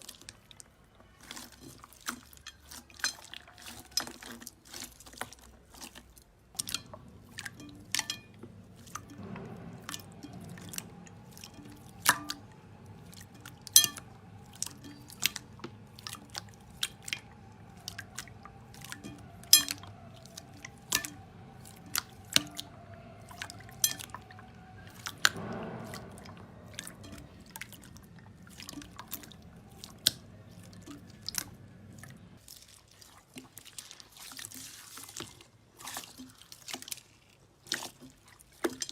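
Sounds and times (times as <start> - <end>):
slime squishing: 0.0 - 9.2, 9.8 - 25.4, 27.4 - 38.9.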